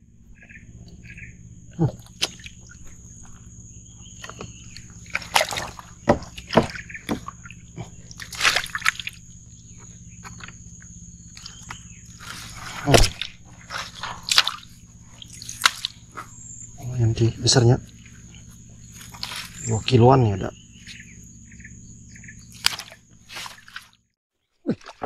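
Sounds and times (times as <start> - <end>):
water splashing and sloshing: 0.2 - 16.9, 17.5 - 25.0.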